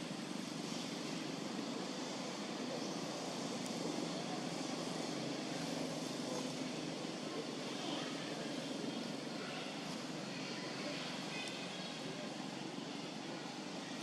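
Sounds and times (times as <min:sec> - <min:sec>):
outdoor background hum: 0:00.0 - 0:14.0.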